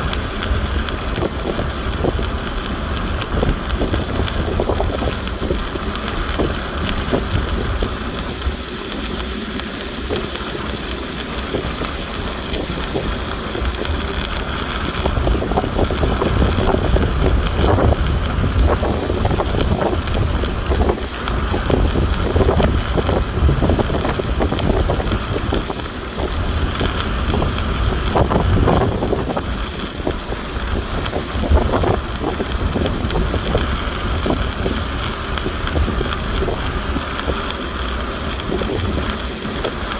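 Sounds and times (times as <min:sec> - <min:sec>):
welding arc crackling: 0:00.0 - 0:39.9.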